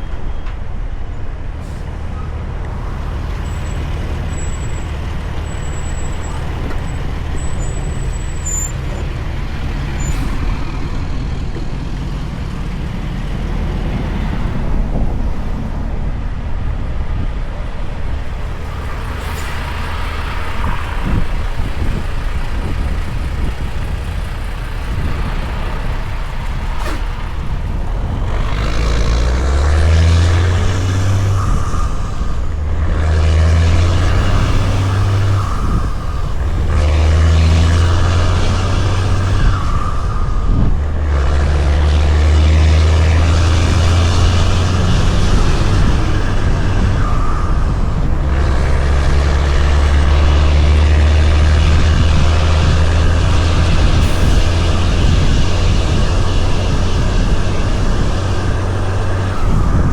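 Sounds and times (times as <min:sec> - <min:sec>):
road and tyre noise: 0:00.0 - 0:59.9
truck diesel engine running: 0:01.0 - 0:59.9.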